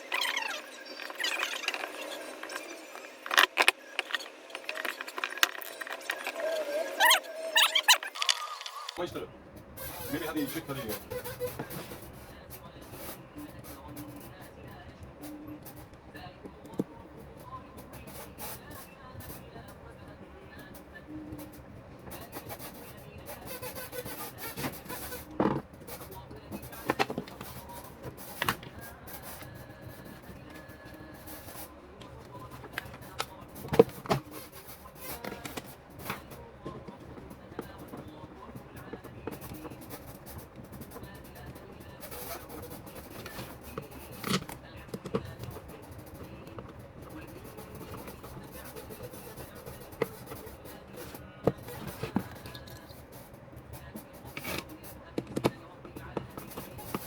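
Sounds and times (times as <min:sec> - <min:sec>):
low background noise: 0:08.8 - 0:57.0.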